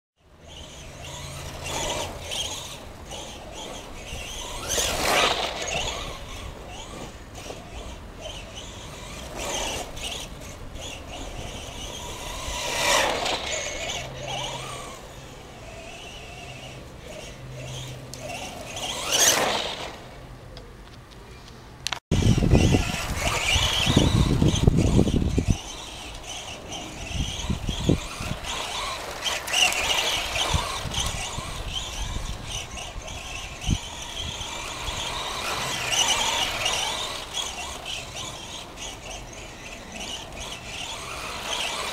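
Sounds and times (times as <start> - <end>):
rc car motor whining past: 0.2 - 21.5, 22.1 - 41.9.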